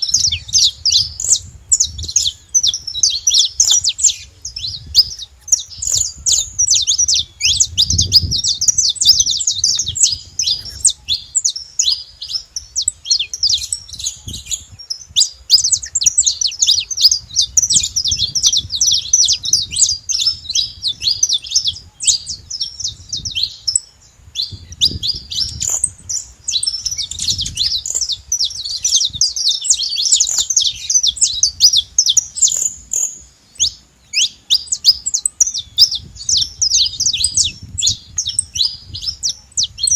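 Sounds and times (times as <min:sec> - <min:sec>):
finch chirping song: 0:00.0 - 0:39.9.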